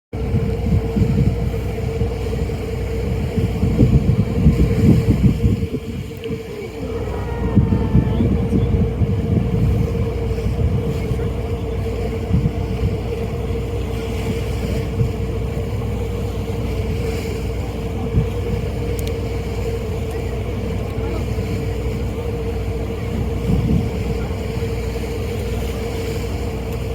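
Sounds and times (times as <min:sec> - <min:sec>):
ferry engines droning: 0:00.2 - 0:26.9
wind buffeting microphone: 0:00.2 - 0:26.9.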